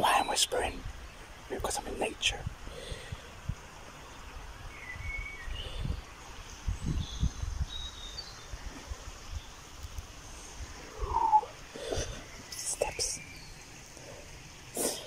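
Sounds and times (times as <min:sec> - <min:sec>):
faint bird chirps: 0:00.1 - 0:15.0.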